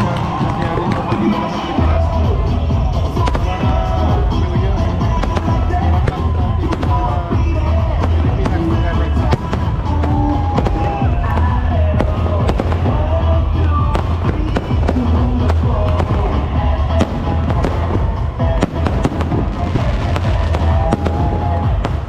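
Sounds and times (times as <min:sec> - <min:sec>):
fireworks bangs and crackles: 0:00.0 - 0:22.0
loud music with heavy bass: 0:00.0 - 0:22.0.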